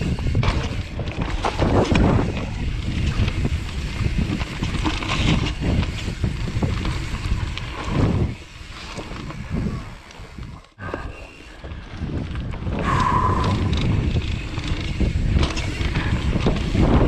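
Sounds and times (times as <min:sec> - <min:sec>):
bike rattling and knocking: 0:00.0 - 0:11.0, 0:11.7 - 0:17.0
tyres rumbling over dirt: 0:00.0 - 0:11.0, 0:11.6 - 0:17.0
wind buffeting microphone: 0:00.0 - 0:17.0.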